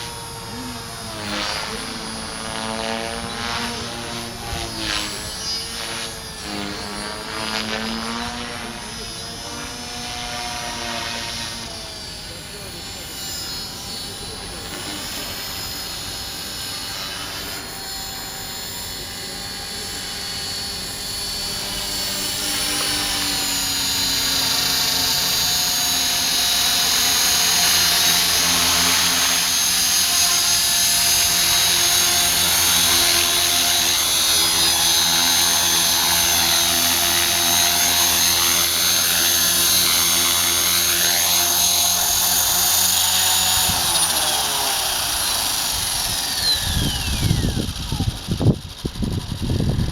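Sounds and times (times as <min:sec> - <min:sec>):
rc helicopter motor whine: 0:00.0 - 0:49.9.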